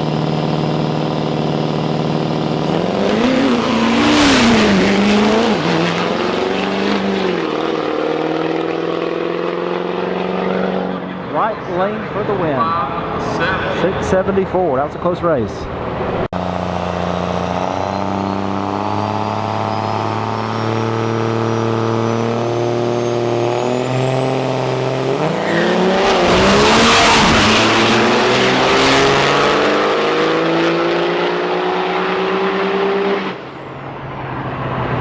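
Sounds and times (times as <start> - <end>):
diesel truck engines whining: 0.0 - 35.0
trucks launching and accelerating: 0.0 - 35.0.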